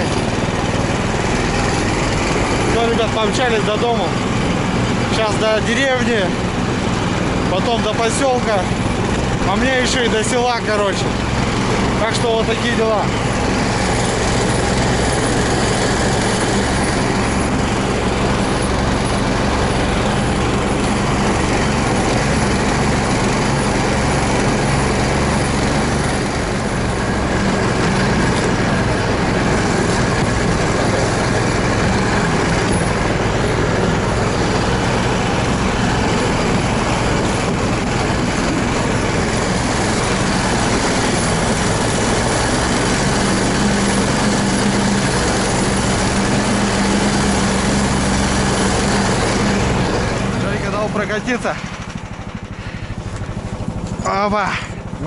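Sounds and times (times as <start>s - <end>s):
snow towing engine running: 0.0s - 55.0s.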